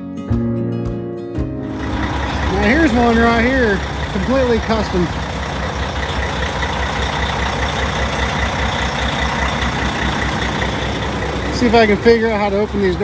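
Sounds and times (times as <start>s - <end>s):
diesel truck engine idling: 1.6s - 13.0s.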